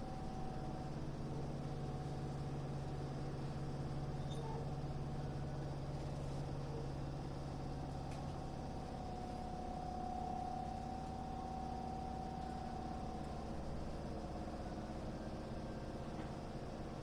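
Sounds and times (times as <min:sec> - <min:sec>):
train car electrical hum: 0:00.0 - 0:17.0.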